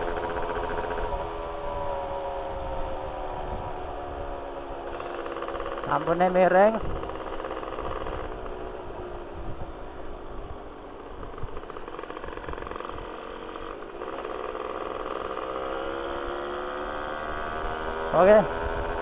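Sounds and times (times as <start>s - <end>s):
road and wind noise: 0.0s - 19.0s
two-stroke motorcycle engine: 0.0s - 19.0s.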